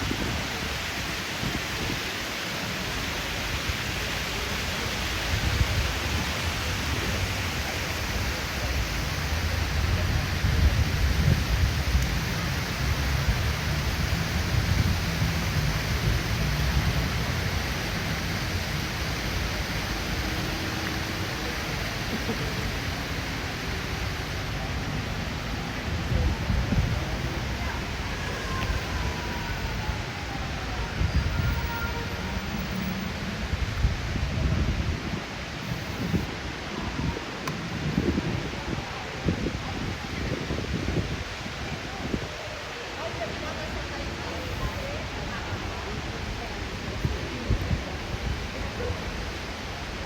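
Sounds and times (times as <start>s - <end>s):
fountain water splashing: 0.0s - 50.0s.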